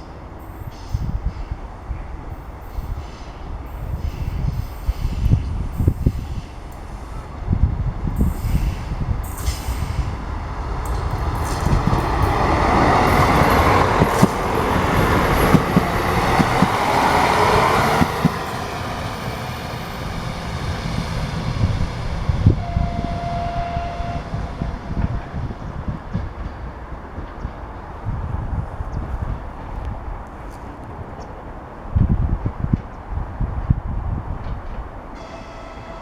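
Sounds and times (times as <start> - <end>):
train rolling on rails: 0.0 - 36.0.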